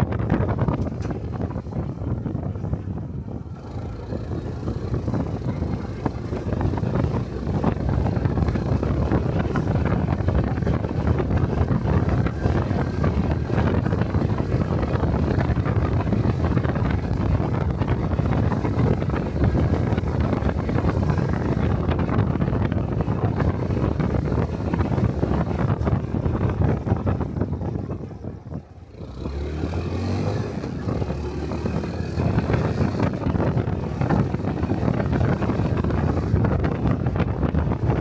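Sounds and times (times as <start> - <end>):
motorcycle engine running: 0.0 - 38.0
wind buffeting microphone: 0.0 - 38.0.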